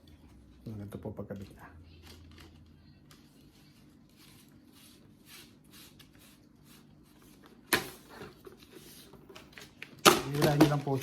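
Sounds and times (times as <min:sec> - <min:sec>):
rustling and scraping: 0:02.0 - 0:11.0.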